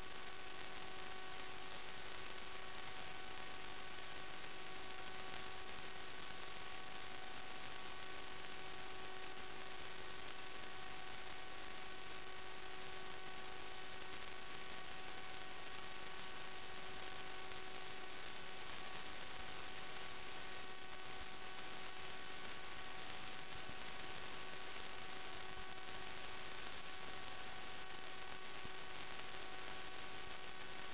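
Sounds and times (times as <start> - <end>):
electronic static hiss: 0.0 - 30.9
faint constant tones: 0.0 - 30.9.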